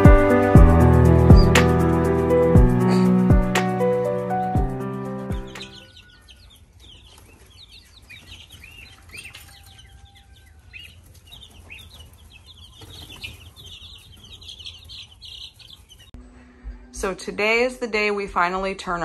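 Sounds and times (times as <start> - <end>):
chicks peeping: 0.0 - 17.2.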